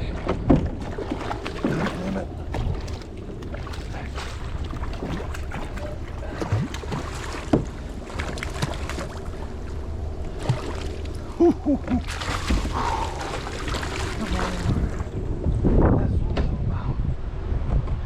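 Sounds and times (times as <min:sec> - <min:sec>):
water noises: 0:00.0 - 0:15.7
wind buffeting microphone: 0:00.0 - 0:18.0.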